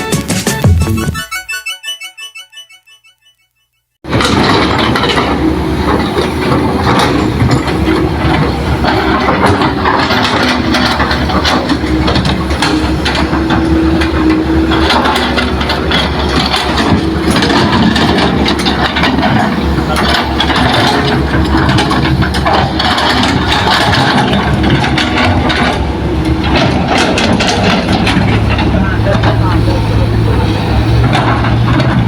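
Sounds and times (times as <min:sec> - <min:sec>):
excavator diesel engine running: 0:04.0 - 0:32.0
sharp knocks and clatter: 0:04.0 - 0:32.0.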